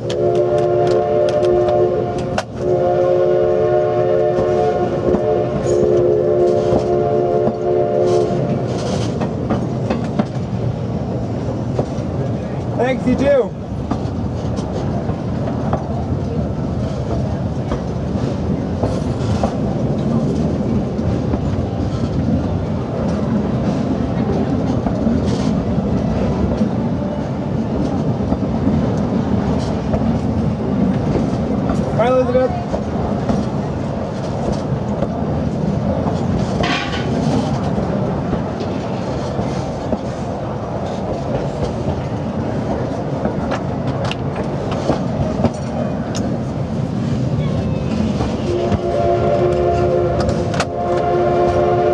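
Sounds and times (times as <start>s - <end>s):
train car rolling on track: 0.0s - 51.9s.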